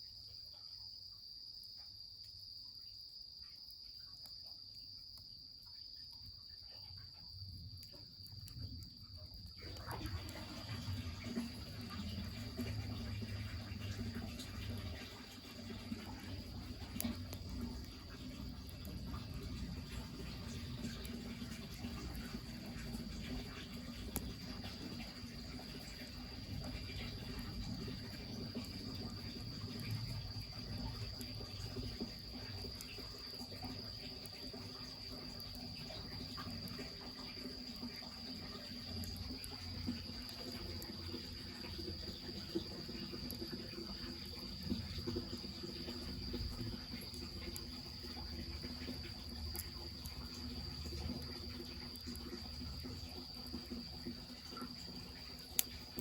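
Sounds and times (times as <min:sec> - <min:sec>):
crickets trilling: 0:00.0 - 0:56.0
wood fire crackling: 0:07.6 - 0:56.0
running water: 0:07.8 - 0:56.0.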